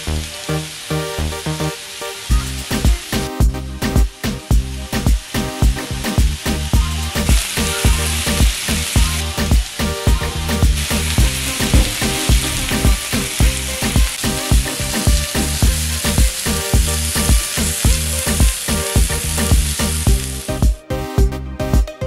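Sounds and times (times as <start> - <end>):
chicken sizzling on grill pan: 0.0 - 20.6
background music with beat: 0.0 - 22.0.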